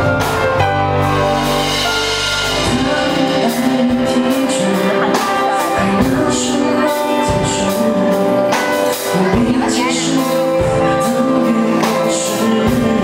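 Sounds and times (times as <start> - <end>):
band with electric guitars: 0.0 - 13.0
man singing: 2.4 - 13.0.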